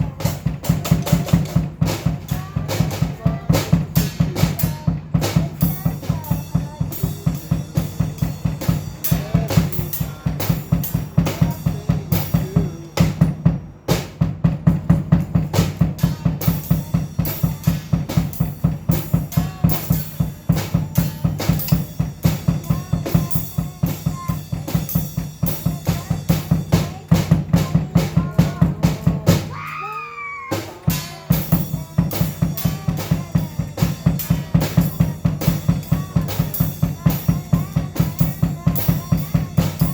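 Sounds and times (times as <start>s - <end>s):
drum kit playing fast beat: 0.0s - 39.9s.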